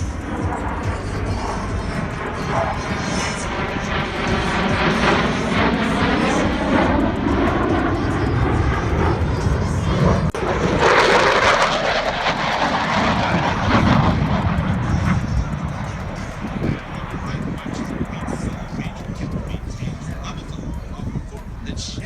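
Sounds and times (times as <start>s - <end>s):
airplane flying past: 0.0s - 22.0s.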